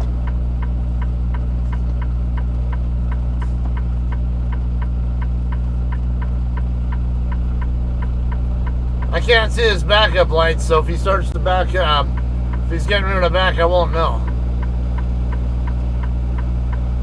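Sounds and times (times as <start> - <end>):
diesel engine idling: 0.0 - 17.0
light regular ticking: 0.0 - 17.0.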